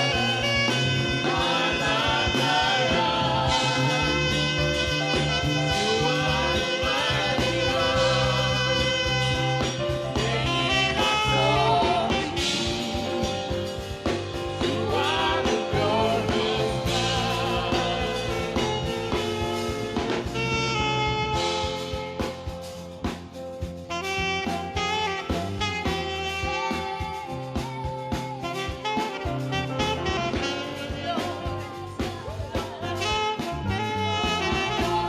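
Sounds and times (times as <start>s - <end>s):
backing track chords and bass: 0.0s - 35.0s
saxophone melody: 0.0s - 35.0s.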